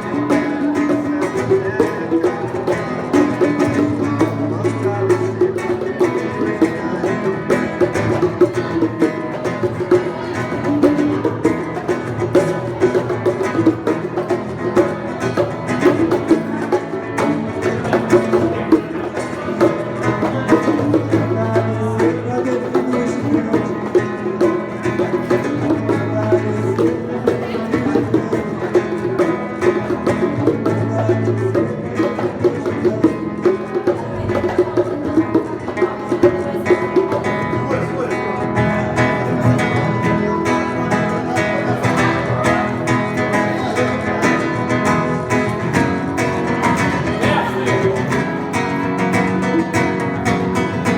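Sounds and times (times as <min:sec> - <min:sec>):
acoustic guitar playing: 0:00.0 - 0:50.9
bongos: 0:00.0 - 0:50.9.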